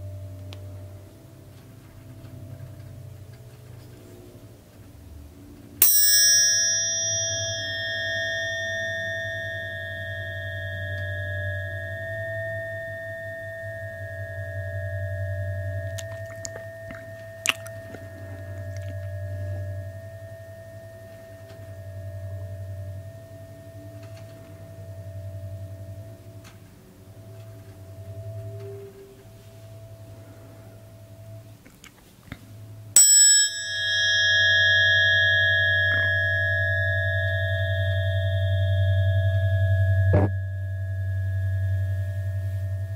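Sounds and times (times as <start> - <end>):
tuning fork ringing: 0.0 - 4.2, 5.7 - 31.5, 32.6 - 42.9
low hum: 0.0 - 42.9.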